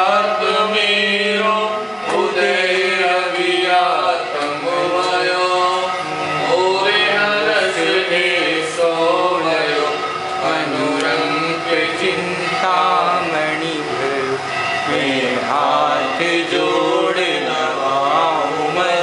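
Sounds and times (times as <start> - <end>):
person singing a devotional hymn: 0.0 - 19.0
steady low drone: 0.0 - 19.0.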